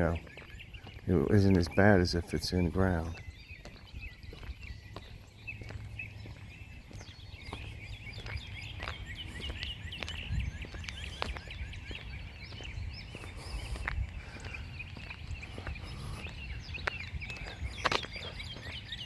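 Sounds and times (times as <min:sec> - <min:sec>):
songbirds chirping and singing: 0:00.0 - 0:19.0.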